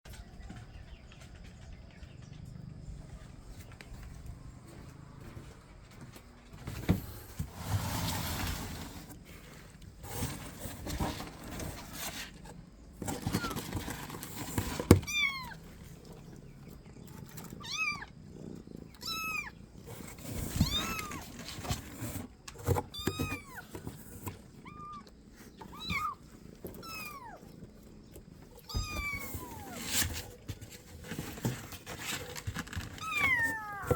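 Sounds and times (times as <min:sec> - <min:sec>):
rustling: 0:03.1 - 0:33.9.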